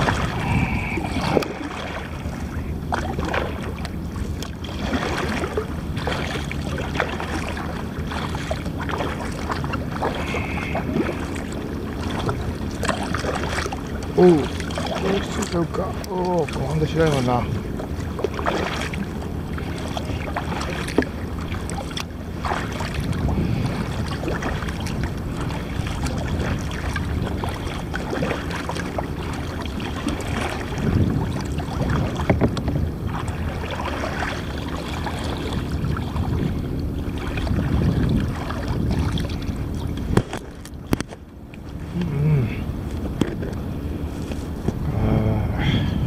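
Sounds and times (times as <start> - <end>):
water lapping against hull: 0.0 - 46.0
wind buffeting microphone: 0.0 - 46.0.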